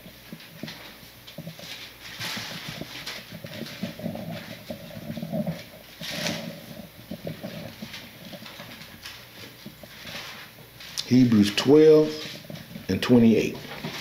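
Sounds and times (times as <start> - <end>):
pages rustling: 0.2 - 14.0.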